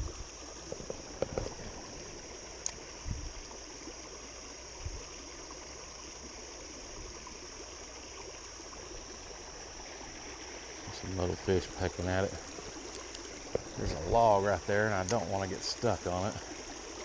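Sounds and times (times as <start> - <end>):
water running over waterfall: 0.0 - 17.0.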